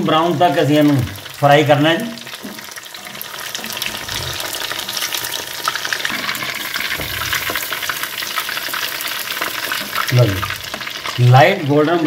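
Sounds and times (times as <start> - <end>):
chicken deep-frying in oil: 0.0 - 12.0
spoon stirring through oil: 0.4 - 11.2.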